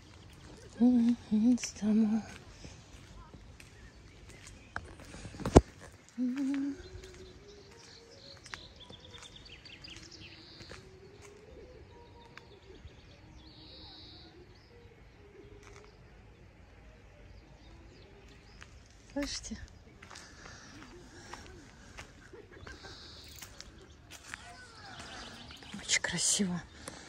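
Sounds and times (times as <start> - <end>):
songbird chirping: 0.0 - 27.0.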